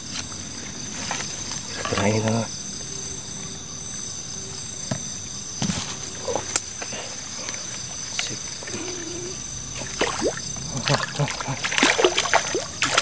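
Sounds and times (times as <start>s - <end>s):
night insects chorus: 0.0s - 13.0s.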